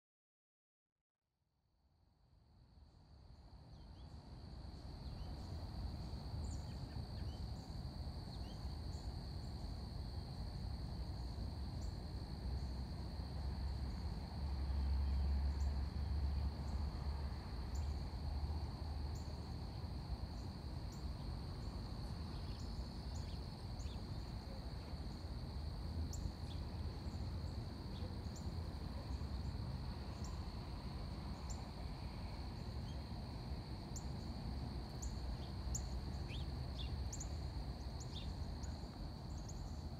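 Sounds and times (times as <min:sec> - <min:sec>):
insects chorus: 0:02.5 - 0:39.9.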